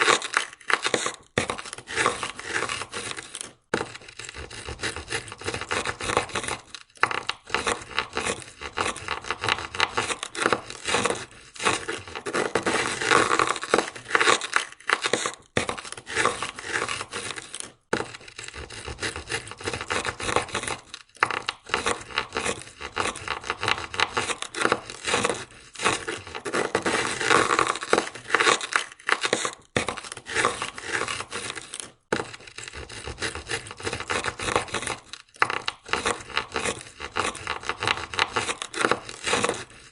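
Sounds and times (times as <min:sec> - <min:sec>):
ice scraper scraping window: 0:00.0 - 0:39.9.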